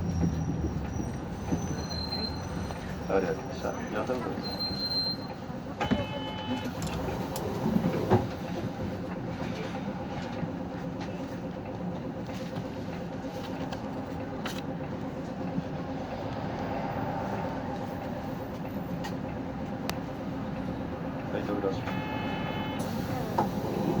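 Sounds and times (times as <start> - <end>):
bus diesel engine idling: 0.0 - 24.0.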